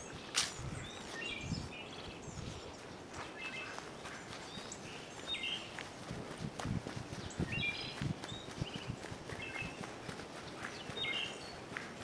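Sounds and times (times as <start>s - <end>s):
birds chirping: 0.0s - 12.0s
footsteps on leaf litter: 0.0s - 12.0s.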